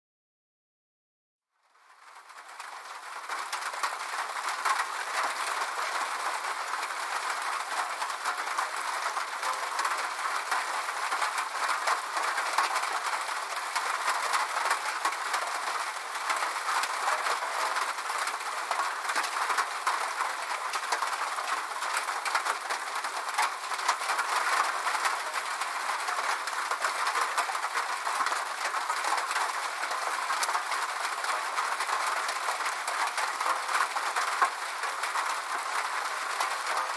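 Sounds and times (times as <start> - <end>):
rain on a metal roof: 1.6 - 36.9.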